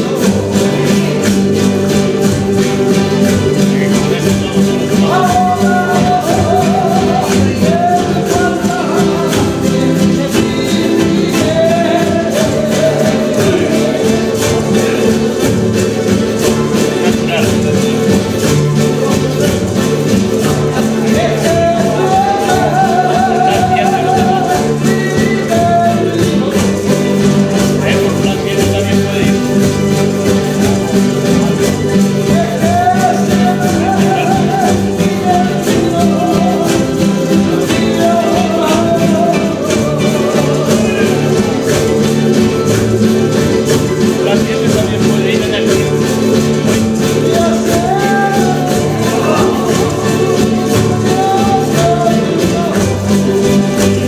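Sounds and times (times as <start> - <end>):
guitars strumming: 0.0 - 54.0
person singing: 0.0 - 54.0.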